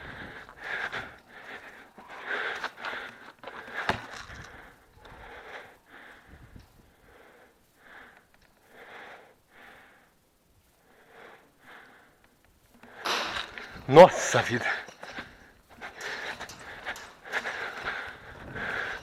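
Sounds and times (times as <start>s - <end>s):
person breathing heavily: 0.0s - 13.9s, 14.6s - 19.0s.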